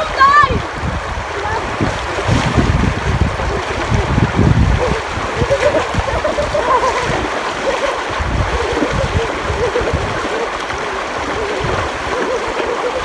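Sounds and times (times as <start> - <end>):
feet splashing through water: 0.0 - 13.0
river rushing over rocks: 0.0 - 13.0.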